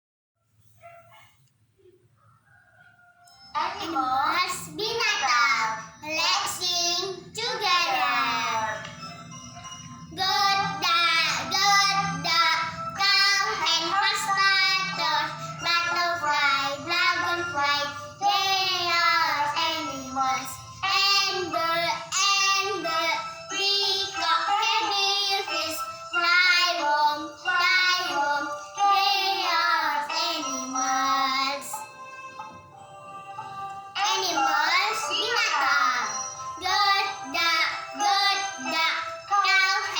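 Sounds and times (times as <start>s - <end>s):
girl singing: 3.5s - 9.0s, 10.1s - 31.9s, 33.9s - 39.9s.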